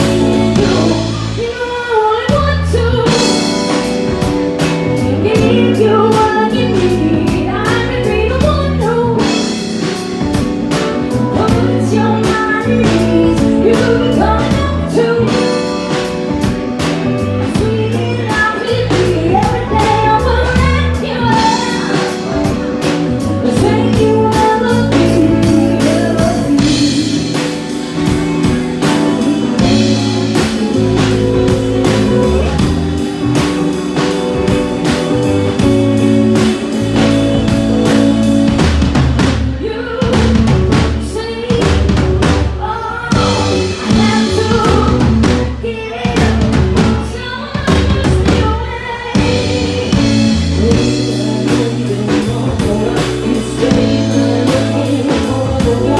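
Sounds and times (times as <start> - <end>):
drum kit beat: 0.0 - 55.9
guitar: 0.0 - 55.9
person singing: 0.0 - 55.9.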